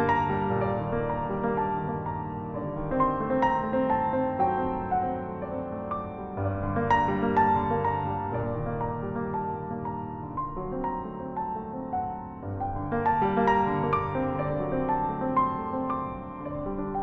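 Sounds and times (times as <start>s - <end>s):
solo grand piano: 0.0s - 17.0s.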